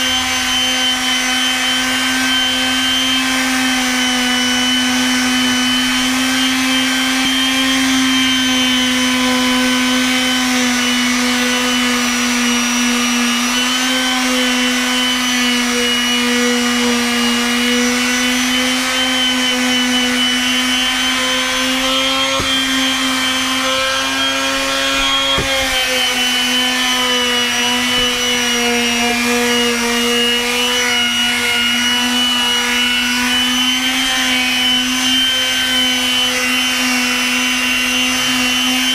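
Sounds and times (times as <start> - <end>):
palm sander sanding wood: 0.0 - 38.9.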